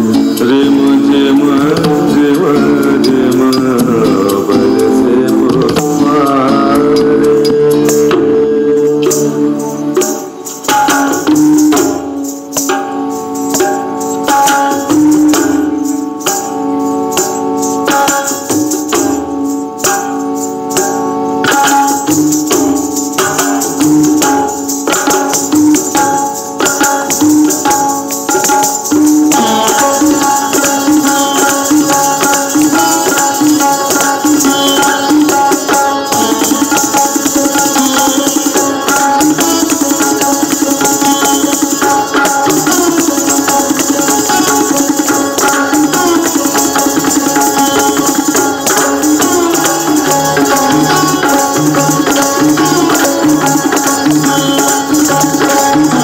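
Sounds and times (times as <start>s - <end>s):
ankle bells jingling: 0.0s - 56.0s
dance music with percussion: 0.0s - 56.0s.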